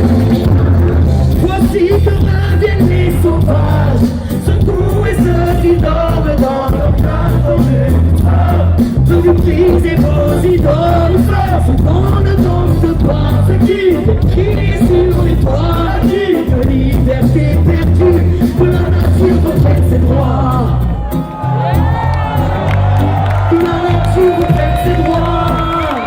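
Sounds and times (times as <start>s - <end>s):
person singing: 0.0s - 22.0s, 23.4s - 26.0s
heavy bass: 0.0s - 26.0s.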